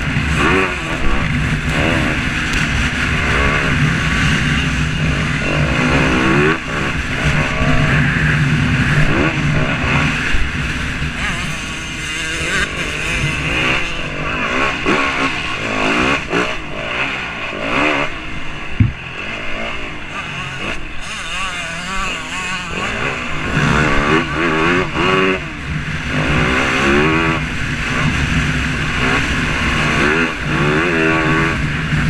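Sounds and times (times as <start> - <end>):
vehicle engines revving: 0.0 - 32.0.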